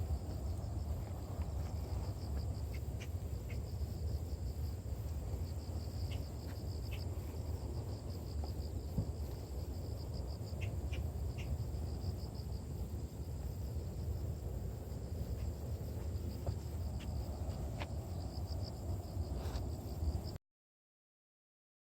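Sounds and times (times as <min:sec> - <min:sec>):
crickets chirping: 0:00.0 - 0:20.4
wind rumble on microphone: 0:00.0 - 0:20.4.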